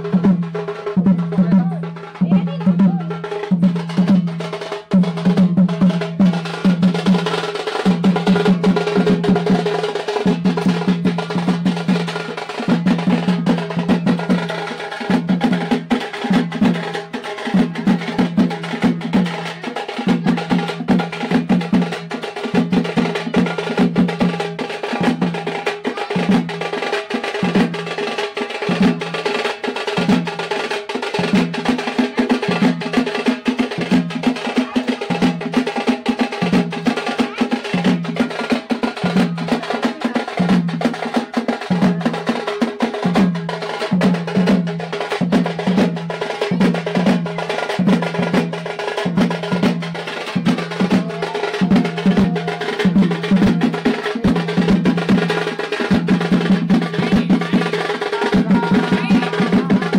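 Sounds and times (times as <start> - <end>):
fast drumming on deep drums: 0.0 - 59.9.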